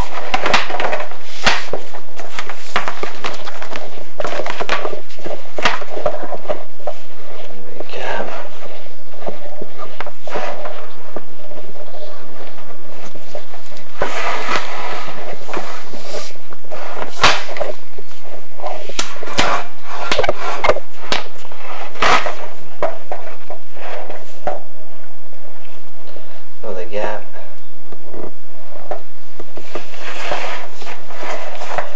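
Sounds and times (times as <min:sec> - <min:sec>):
cable rustling and scraping: 0:00.0 - 0:24.7, 0:28.0 - 0:31.9.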